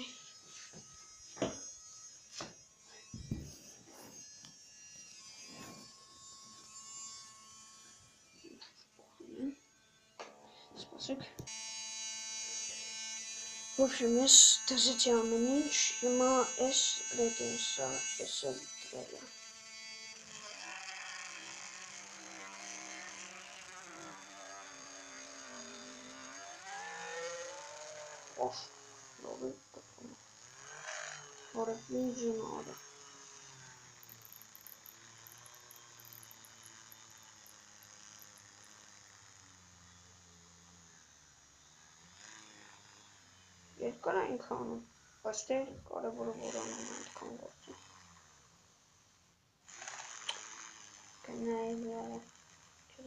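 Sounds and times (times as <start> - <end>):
small drill motor buzzing: 0.0 - 53.0.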